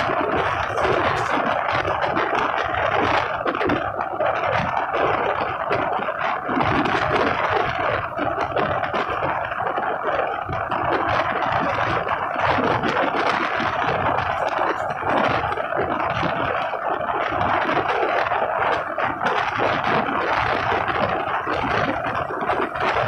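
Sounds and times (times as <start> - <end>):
rushing air: 0.0 - 23.0
train wheels on rails: 0.0 - 23.0.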